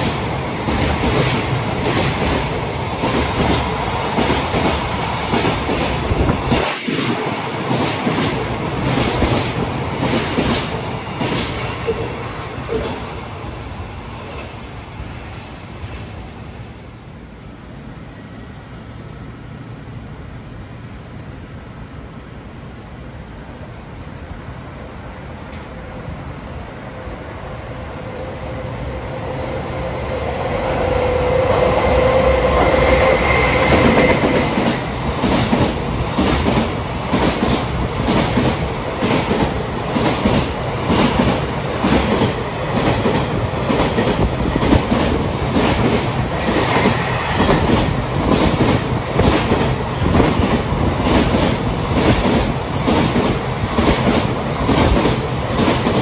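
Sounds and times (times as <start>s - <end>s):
freight train passing: 0.0s - 56.0s
train whine: 0.0s - 56.0s.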